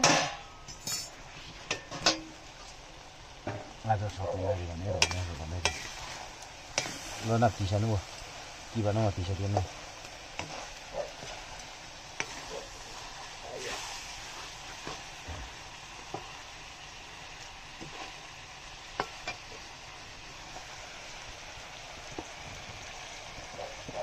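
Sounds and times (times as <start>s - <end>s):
chicken sizzling in a wok: 0.0s - 24.0s.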